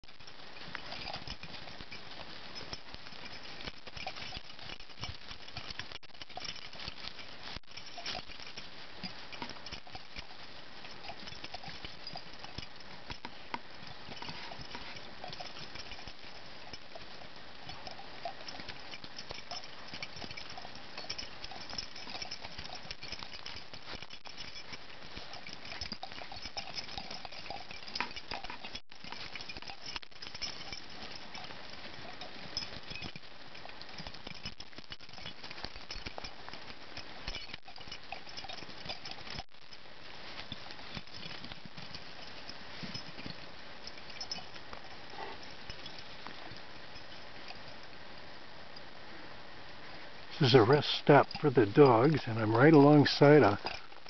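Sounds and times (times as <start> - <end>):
dogs moving through dry brush: 0.2 - 48.0.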